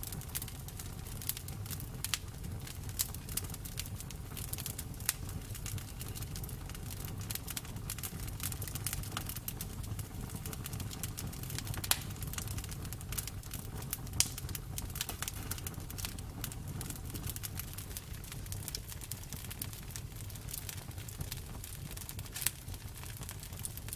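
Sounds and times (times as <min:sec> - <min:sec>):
burning wood crackling: 0:00.0 - 0:23.9
loud pops of fire: 0:00.0 - 0:23.9
low rumble of flames: 0:00.0 - 0:23.9.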